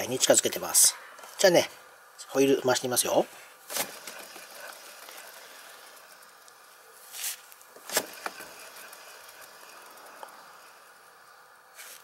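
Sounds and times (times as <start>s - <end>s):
wheel whirring faintly: 0.0s - 12.0s.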